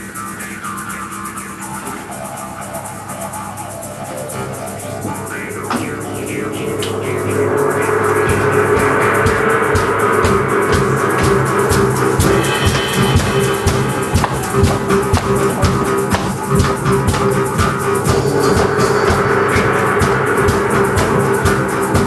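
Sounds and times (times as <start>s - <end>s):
jaw harps twanging: 0.0s - 22.0s
percussion: 0.0s - 22.0s.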